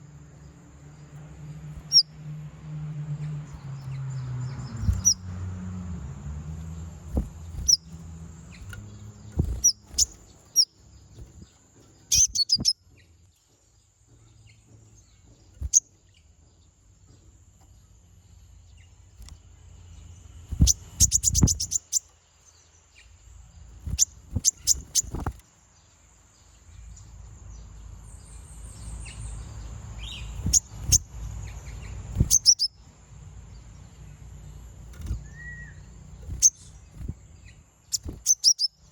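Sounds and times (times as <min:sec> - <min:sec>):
bird chirping and trilling: 0:00.9 - 0:02.3, 0:03.2 - 0:05.7, 0:06.4 - 0:13.2, 0:15.0 - 0:16.3, 0:17.7 - 0:25.4, 0:26.8 - 0:38.9.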